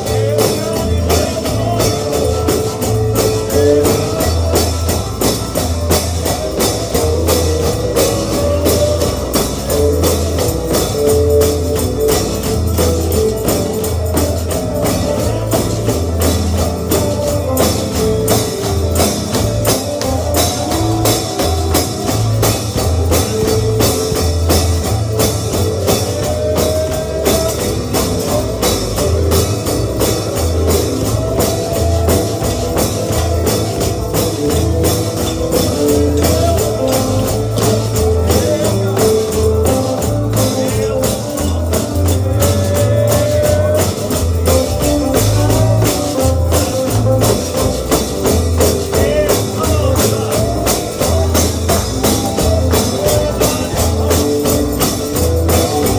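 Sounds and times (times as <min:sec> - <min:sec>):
stepping bass line: 0:00.0 - 0:55.9
tambourine beat: 0:00.0 - 0:55.9.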